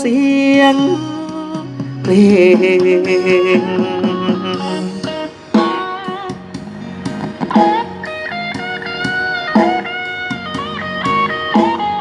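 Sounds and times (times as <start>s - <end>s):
lead electric guitar melody: 0.0s - 12.0s
band playing a steady beat: 0.9s - 12.0s.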